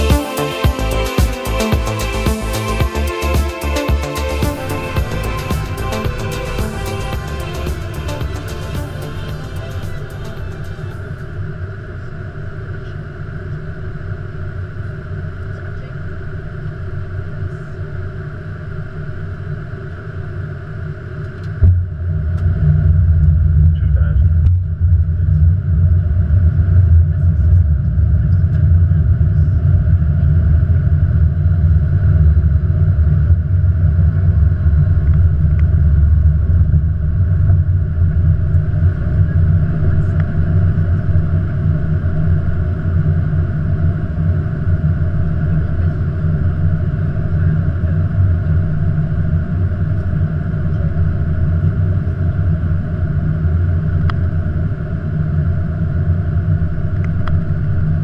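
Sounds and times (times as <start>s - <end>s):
constant hum: 0.0s - 58.0s
low rumble of airflow and engines: 4.2s - 58.0s.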